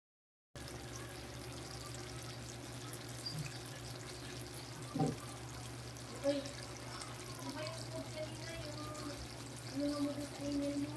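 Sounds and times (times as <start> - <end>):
low steady hum: 0.6 - 10.9
sauce bubbling in a wok: 0.6 - 10.9.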